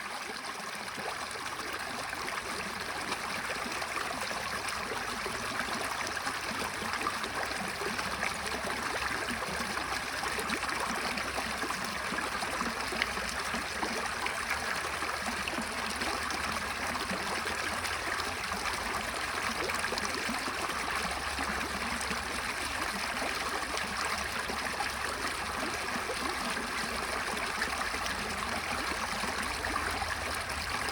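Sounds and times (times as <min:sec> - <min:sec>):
brook flowing through culvert: 0:00.0 - 0:30.9.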